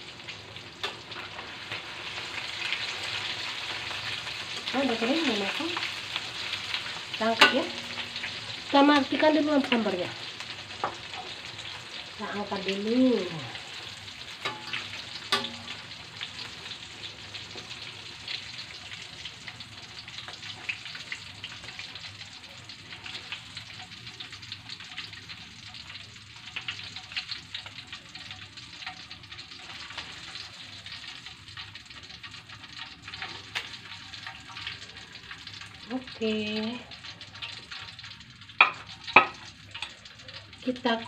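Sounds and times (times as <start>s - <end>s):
chicken frying in hot oil: 0.0s - 41.0s.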